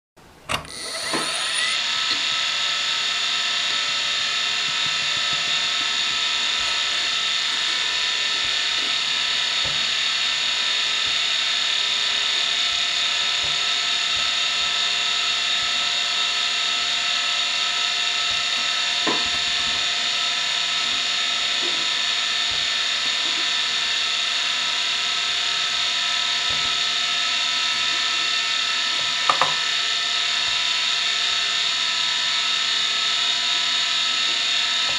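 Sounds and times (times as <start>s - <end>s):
hard drive whine: 0.2s - 34.9s.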